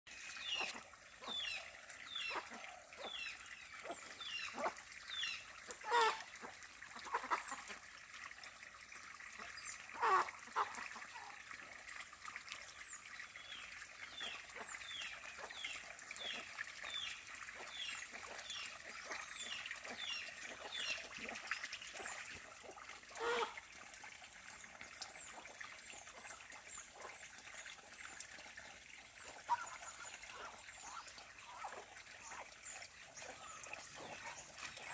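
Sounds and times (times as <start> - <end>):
water splashing softly: 0.1 - 34.9.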